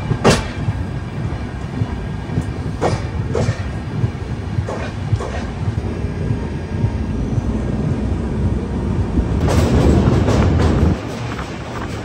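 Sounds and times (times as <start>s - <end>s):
train low rumble: 0.0s - 12.0s
wheels clacking over rail joints: 0.0s - 12.0s.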